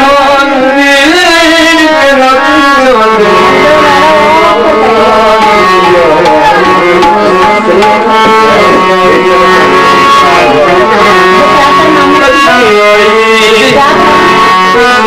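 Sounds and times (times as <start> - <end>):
harmonium melody: 0.0 - 15.0
person singing: 0.0 - 15.0.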